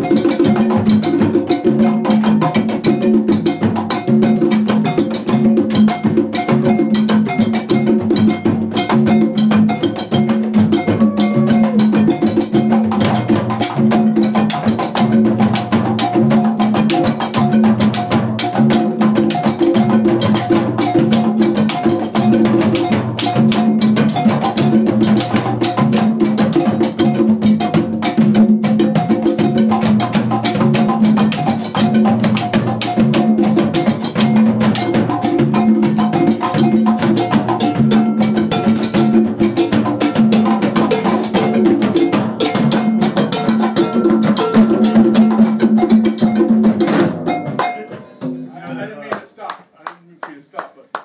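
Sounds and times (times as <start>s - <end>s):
percussion ensemble drumming: 0.0s - 51.0s.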